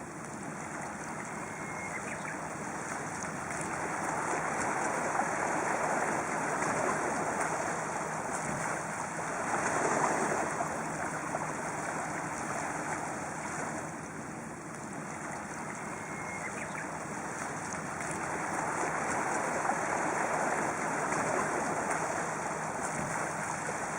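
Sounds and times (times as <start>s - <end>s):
sea waves washing on shore: 0.0s - 23.9s.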